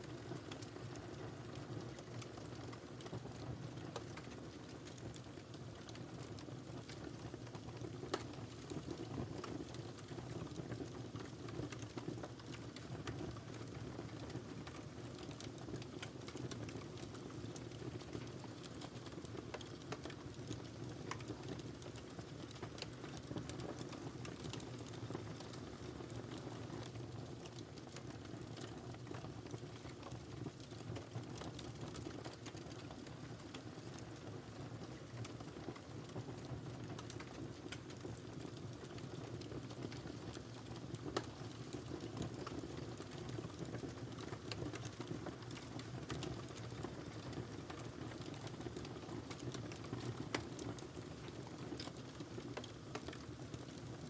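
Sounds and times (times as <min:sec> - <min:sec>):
fire crackling and snapping: 0:00.0 - 0:54.0
flames rumbling: 0:04.0 - 0:54.0.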